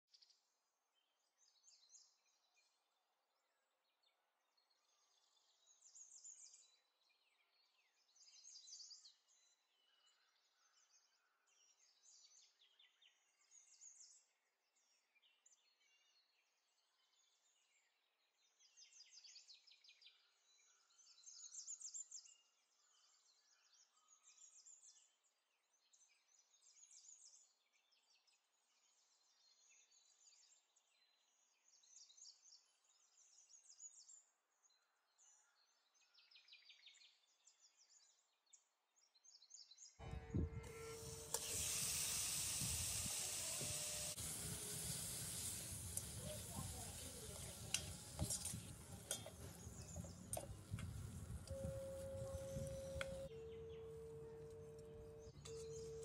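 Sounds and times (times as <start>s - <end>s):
faint birdsong chirps and trills: 0.1s - 41.8s, 42.8s - 56.0s.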